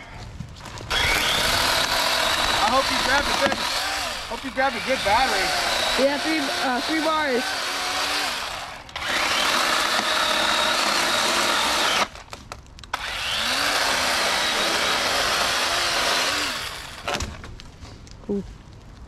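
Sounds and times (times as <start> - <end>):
chainsaw cutting wood: 0.9 - 17.5.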